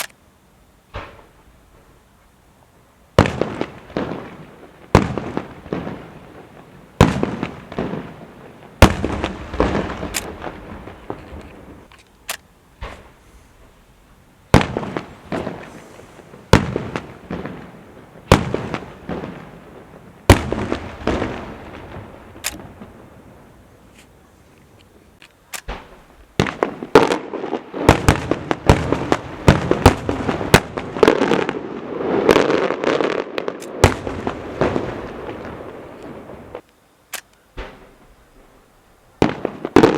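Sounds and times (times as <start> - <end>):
fireworks bangs echoing: 0.9 - 1.9, 3.2 - 11.9, 12.8 - 13.8, 14.5 - 24.3, 25.6 - 36.6, 37.5 - 38.6, 39.2 - 39.9.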